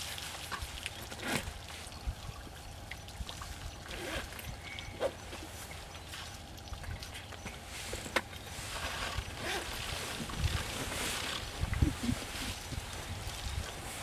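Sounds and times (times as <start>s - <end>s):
water trickling and pouring: 0.0s - 14.0s.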